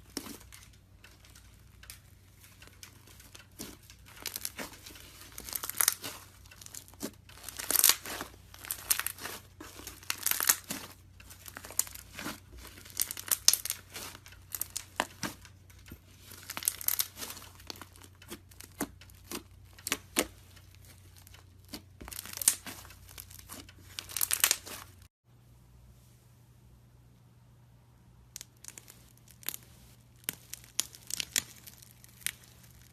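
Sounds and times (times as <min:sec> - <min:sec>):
slime crust crackling and crunching: 0:00.0 - 0:25.1, 0:28.3 - 0:32.9.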